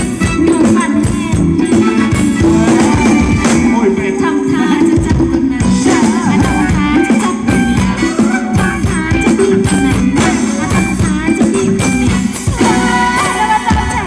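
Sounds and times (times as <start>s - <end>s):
live band dance music: 0.0s - 14.0s.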